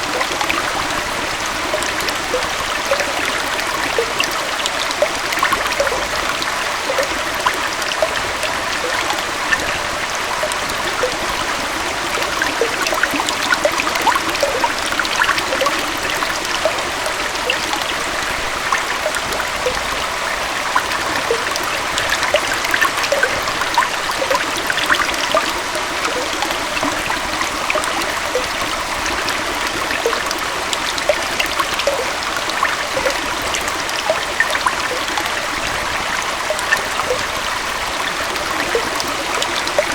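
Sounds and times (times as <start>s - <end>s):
small waterfall and stream rushing: 0.0s - 39.9s.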